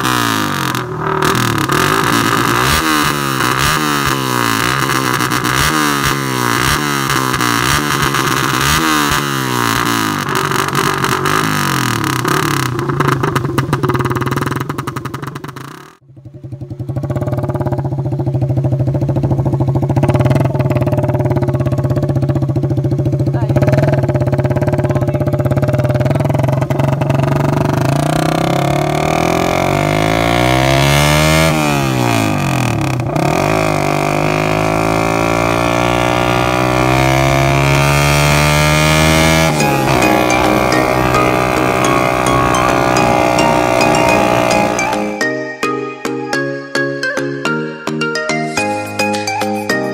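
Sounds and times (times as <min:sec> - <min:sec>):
motorcycle engine running: 0:00.0 - 0:45.2.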